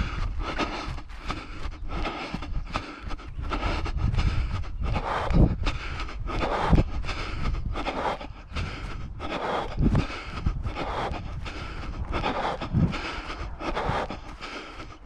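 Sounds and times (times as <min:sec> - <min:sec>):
footsteps on dirt path: 0:00.0 - 0:15.0
runner breathing hard: 0:00.0 - 0:15.0
wind rumbling on microphone: 0:00.0 - 0:15.0.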